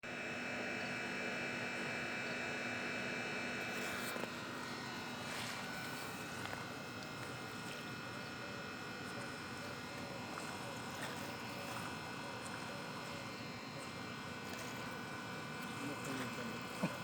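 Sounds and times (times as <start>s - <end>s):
electrical buzzing hum: 0.0s - 17.0s.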